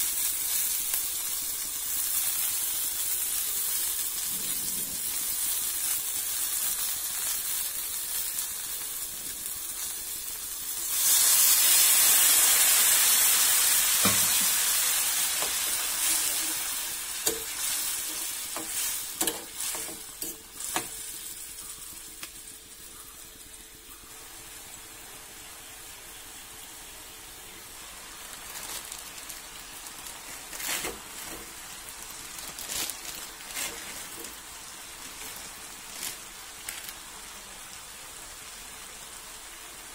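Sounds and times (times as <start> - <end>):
onions sizzling in a pan: 0.0 - 39.9
water hissing in hot pan: 0.0 - 39.9.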